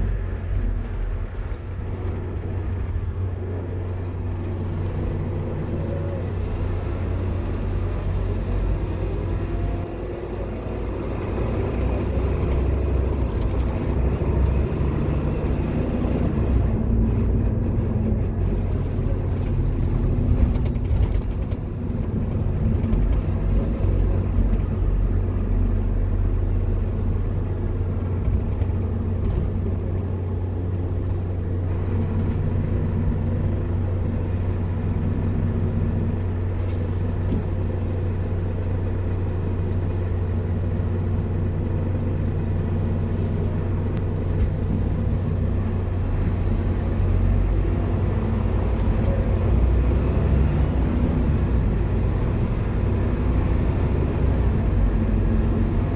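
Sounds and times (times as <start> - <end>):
bus diesel engine droning: 0.0 - 55.9.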